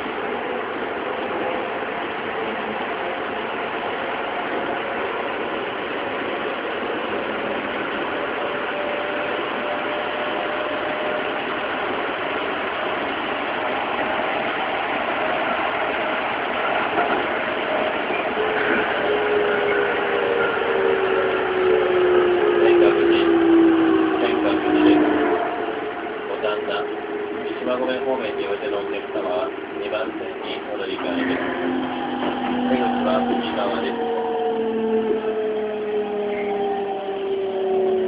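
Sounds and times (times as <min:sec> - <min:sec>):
train wheel and rail noise: 0:00.0 - 0:38.0.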